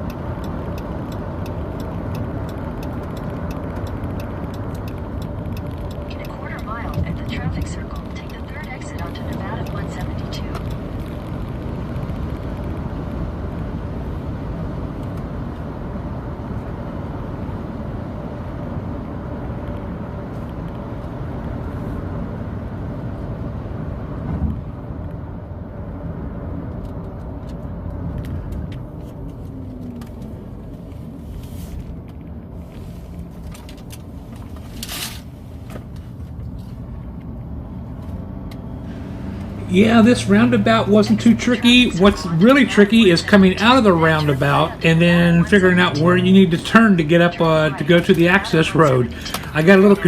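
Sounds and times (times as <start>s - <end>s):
car road and engine noise: 0.0s - 50.0s.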